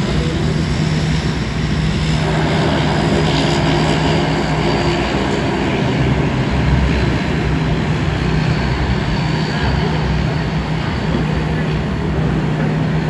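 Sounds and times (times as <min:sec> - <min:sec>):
turboprop engines and propellers: 0:00.0 - 0:13.0.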